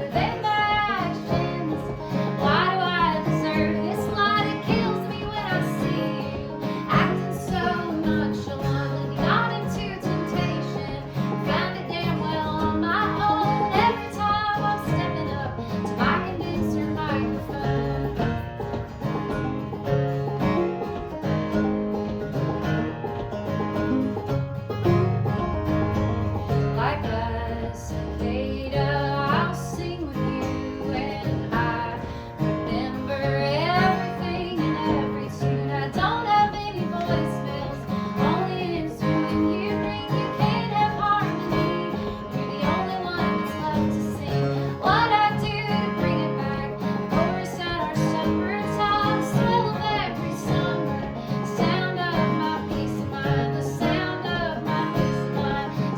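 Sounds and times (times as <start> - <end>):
acoustic folk string band: 0.0 - 55.9
banjo: 0.0 - 55.9
plucked guitar: 0.0 - 55.9.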